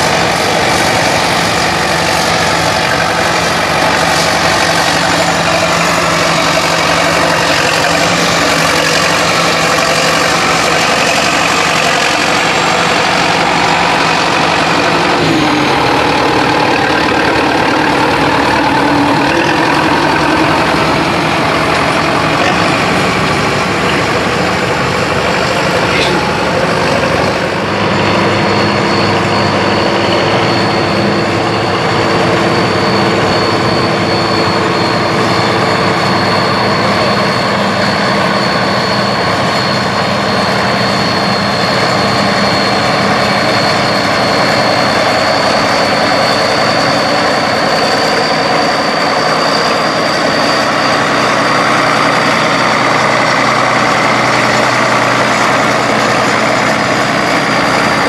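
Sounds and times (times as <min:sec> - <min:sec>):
thin high whine: 0:00.0 - 0:58.0
tractor engines running under load: 0:00.0 - 0:58.0.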